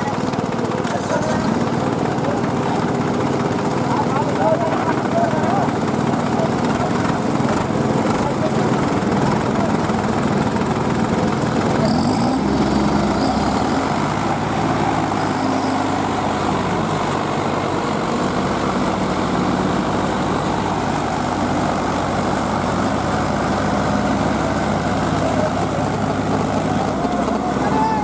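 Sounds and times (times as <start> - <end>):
diesel tractor engines under load: 0.0 - 28.0.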